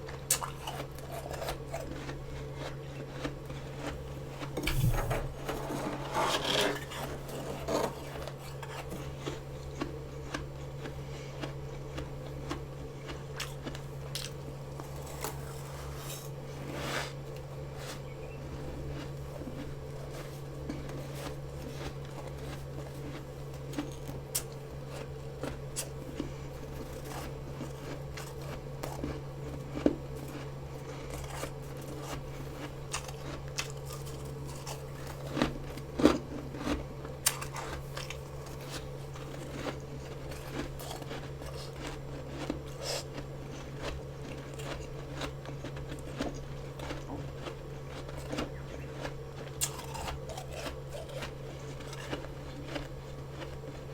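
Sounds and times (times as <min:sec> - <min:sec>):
chewing crunchy frost: 0:00.0 - 0:53.9
steady low hum: 0:00.0 - 0:53.9.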